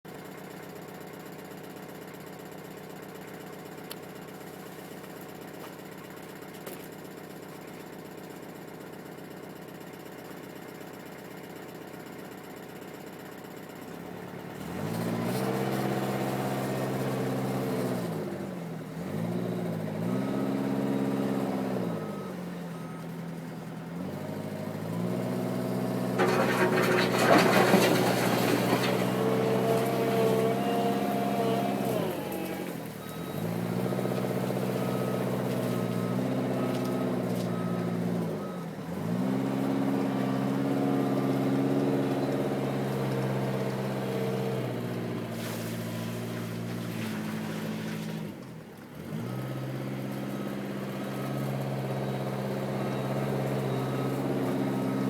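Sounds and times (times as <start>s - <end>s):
diesel engine idling and revving: 0.1s - 55.0s.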